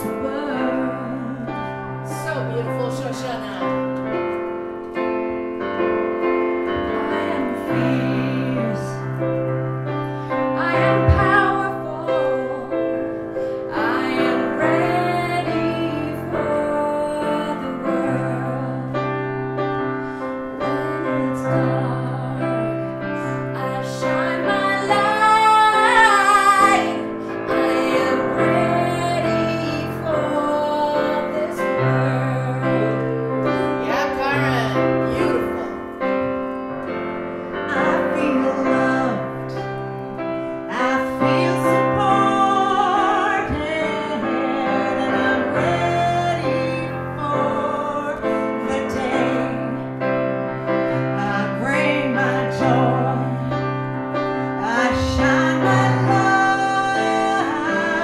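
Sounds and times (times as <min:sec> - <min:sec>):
woman singing into microphone: 0:00.0 - 0:03.9, 0:06.7 - 0:19.3, 0:20.5 - 0:36.0, 0:37.6 - 0:40.0, 0:40.6 - 0:50.2, 0:50.9 - 0:58.0
held keyboard chords: 0:00.0 - 0:58.0.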